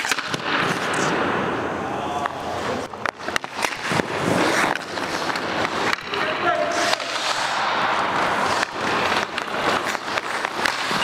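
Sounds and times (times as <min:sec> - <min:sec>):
skates scraping on ice: 0:00.0 - 0:01.7, 0:02.4 - 0:11.0
sticks and pucks knocking: 0:02.2 - 0:11.0.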